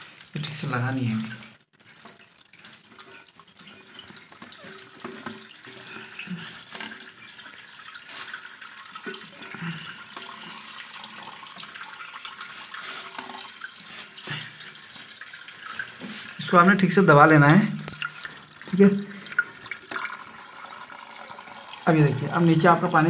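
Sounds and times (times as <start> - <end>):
water trickling in toilet cistern: 0.0 - 23.0.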